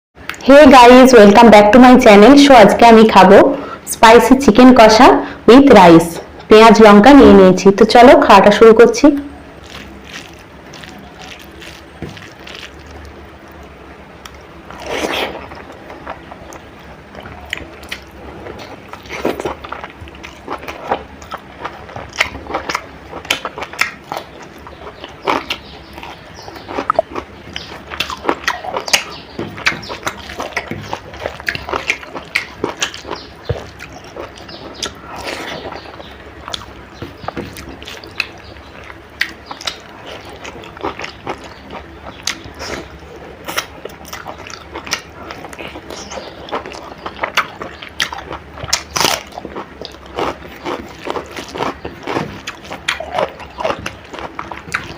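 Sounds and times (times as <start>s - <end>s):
wet mouth clicks and chewing: 9.6s - 54.9s.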